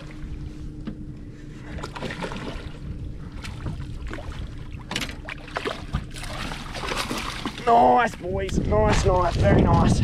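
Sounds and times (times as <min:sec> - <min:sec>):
faint steady hum: 0:00.0 - 0:09.2
rumble of wind and water: 0:00.0 - 0:10.0
knocks and splashes: 0:01.8 - 0:09.9.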